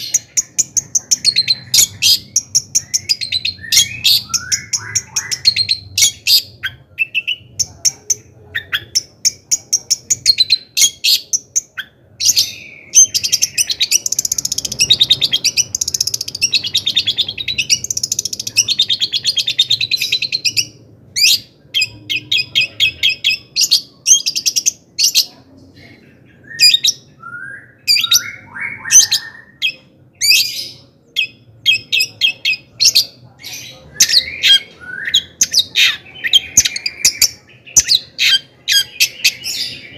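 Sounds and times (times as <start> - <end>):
shrike singing: 0.0 - 39.9.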